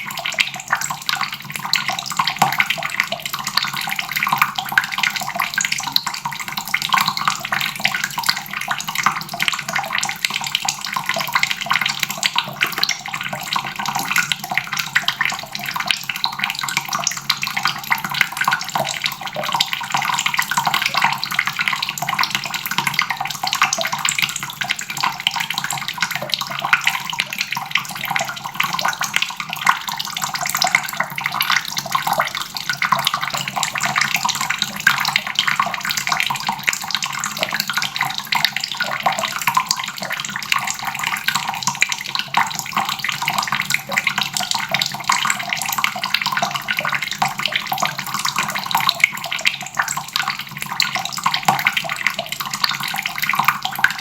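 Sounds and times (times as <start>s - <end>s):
tap water splashing into basin: 0.0s - 54.0s.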